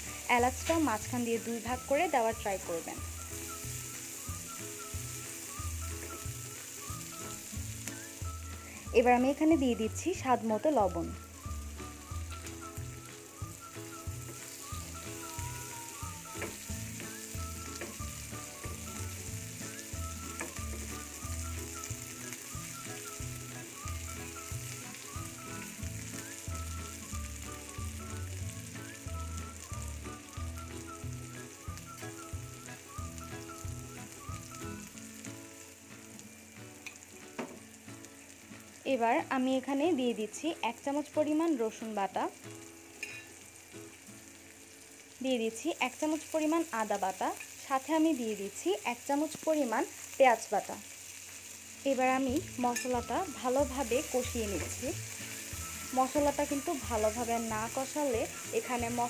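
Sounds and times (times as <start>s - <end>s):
onions sizzling in oil: 0.0s - 59.0s.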